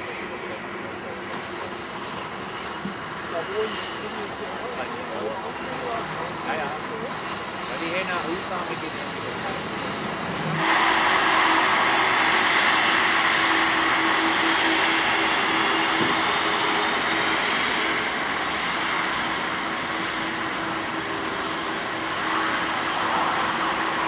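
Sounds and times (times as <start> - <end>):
jet engines at high power: 0.0 - 24.0.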